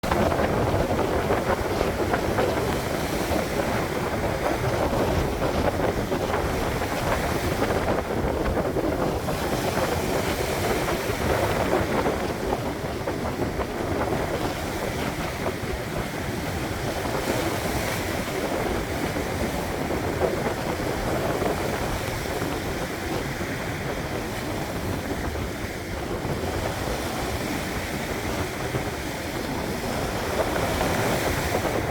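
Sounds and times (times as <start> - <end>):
sea waves washing on shore: 0.0 - 31.9
wind buffeting microphone: 0.0 - 31.9.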